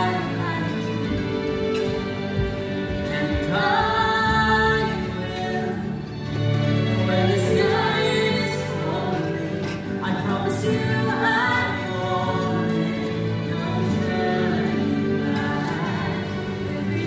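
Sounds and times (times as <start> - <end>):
slow music with singing: 0.0 - 17.0.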